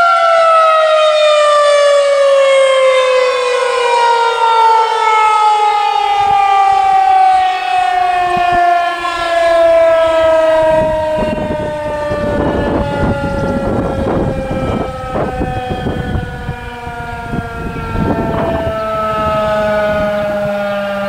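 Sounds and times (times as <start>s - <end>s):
warning siren winding down: 0.0s - 21.0s.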